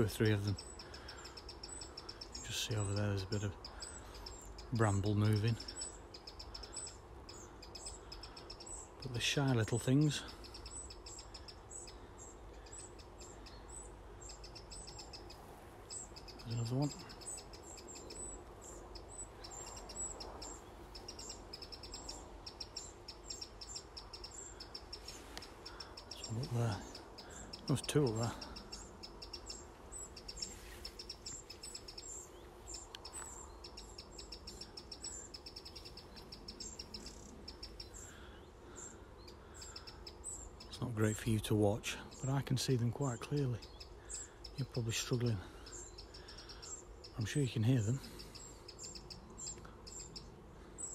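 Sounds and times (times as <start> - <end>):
young wrens ticking calls: 0.0 - 50.9.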